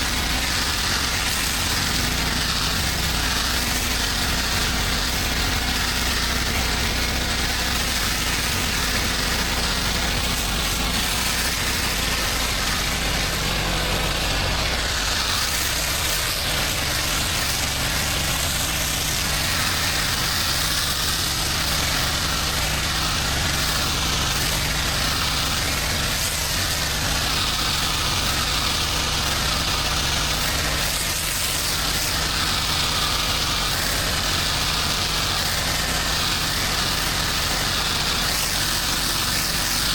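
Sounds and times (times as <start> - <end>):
even hiss: 0.0 - 39.9
pressure washer engine running: 0.0 - 39.9.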